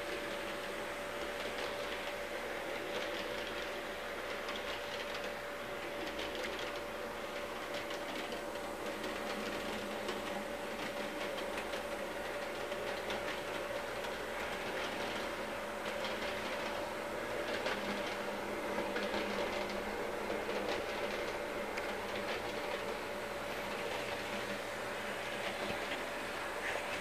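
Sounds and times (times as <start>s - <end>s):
wheels clicking on rails: 0.0s - 27.0s.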